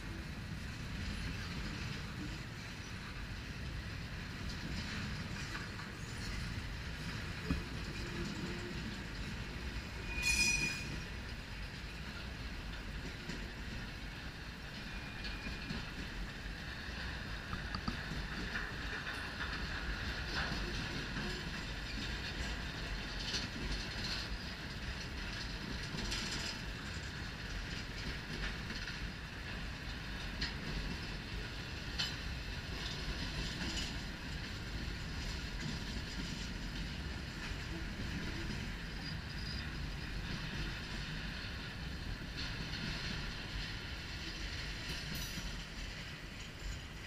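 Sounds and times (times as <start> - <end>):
train wheels rumbling on rail: 0.0 - 47.0
wheels clicking over rail joints: 0.1 - 47.0.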